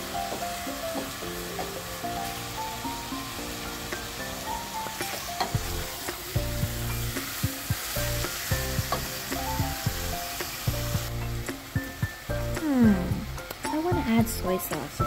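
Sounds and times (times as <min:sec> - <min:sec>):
chicken and onion sizzling: 0:00.0 - 0:15.0.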